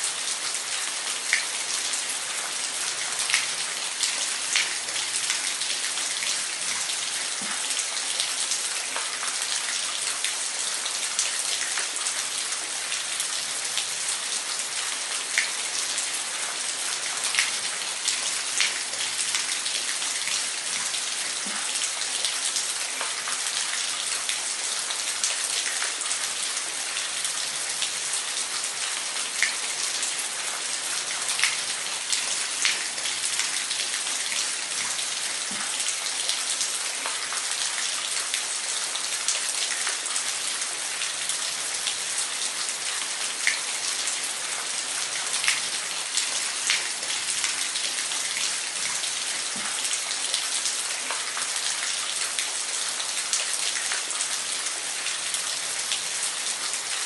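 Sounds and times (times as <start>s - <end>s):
water drips and splashes: 0.2s - 57.0s.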